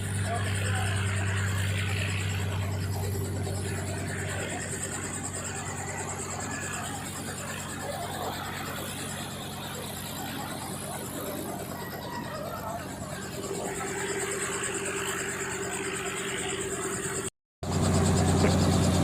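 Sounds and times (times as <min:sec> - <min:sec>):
engine high whine: 0:00.0 - 0:19.0
engine low hum: 0:00.0 - 0:19.0.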